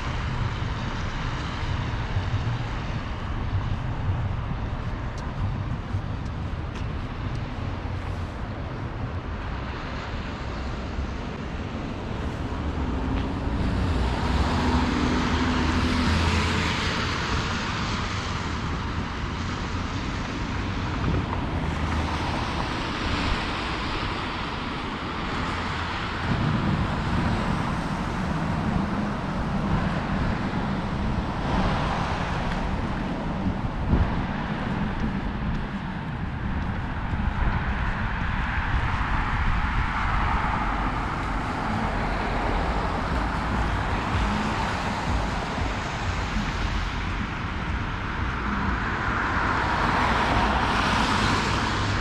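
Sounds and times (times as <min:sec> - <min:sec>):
vehicles passing close by: 0:00.0 - 0:52.0.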